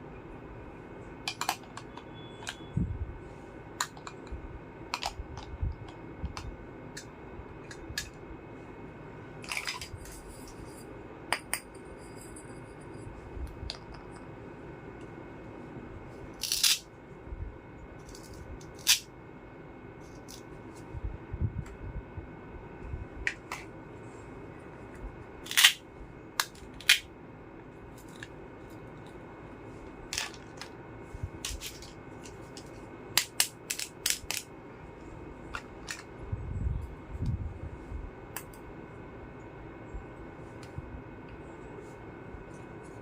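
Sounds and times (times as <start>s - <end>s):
faint room hum: 0.0s - 43.0s.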